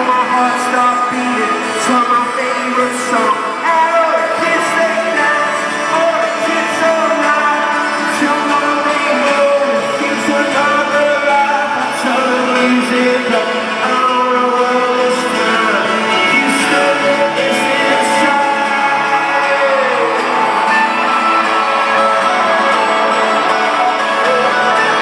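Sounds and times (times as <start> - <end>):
guitar: 0.0 - 25.0
live rock band playing: 0.0 - 25.0
wordless sung melody: 0.0 - 25.0.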